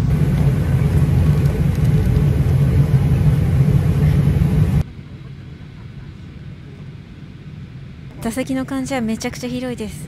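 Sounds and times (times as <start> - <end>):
airliner cabin ventilation rumble: 0.0 - 10.0.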